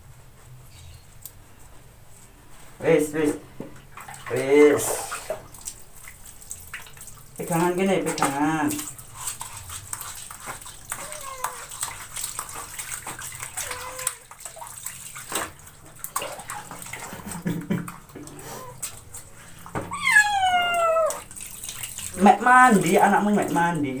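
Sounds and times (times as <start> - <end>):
water splashing in plastic basin: 3.2 - 24.0.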